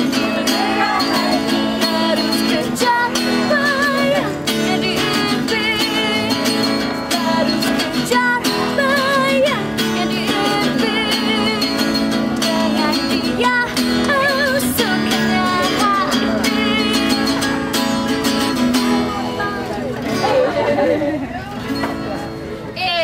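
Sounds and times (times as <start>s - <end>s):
acoustic guitar strumming: 0.0s - 22.7s.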